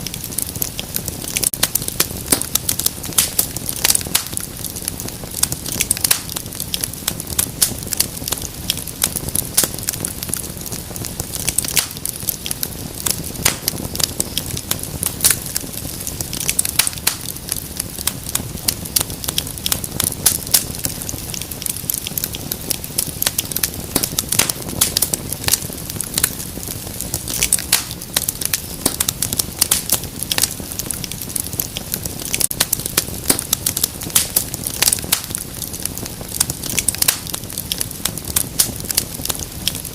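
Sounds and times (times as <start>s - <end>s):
low rumble of flame: 0.0s - 39.9s
wood fire crackling: 0.0s - 39.9s.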